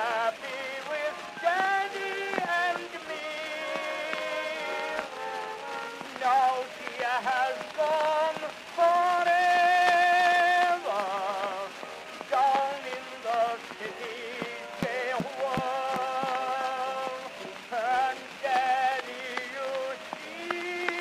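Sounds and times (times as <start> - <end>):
male tenor singing with vibrato: 0.0 - 21.0
record crackle and hiss: 0.0 - 21.0.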